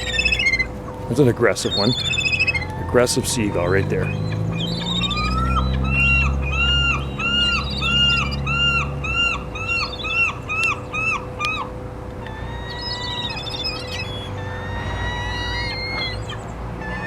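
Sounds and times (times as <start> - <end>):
faint drawn-out call: 0.0 - 17.0
gull calling: 0.0 - 17.0.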